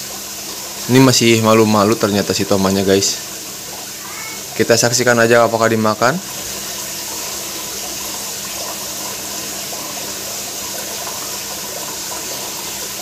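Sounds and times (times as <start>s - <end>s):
aquarium filter water rushing: 0.0s - 13.0s
pump humming: 0.0s - 13.0s.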